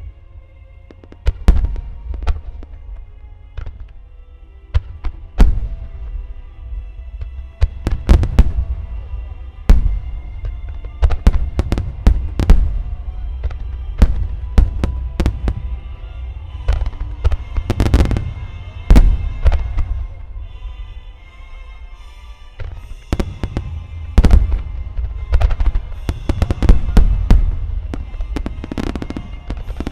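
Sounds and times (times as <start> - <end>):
low rumble: 0.0 - 29.9
fireworks bangs: 0.9 - 3.0, 4.7 - 6.2, 7.2 - 21.0, 22.0 - 29.9.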